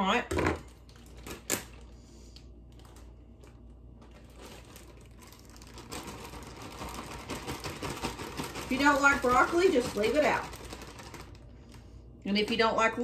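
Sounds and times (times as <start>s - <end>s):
plastic bag crinkling: 0.6s - 12.6s.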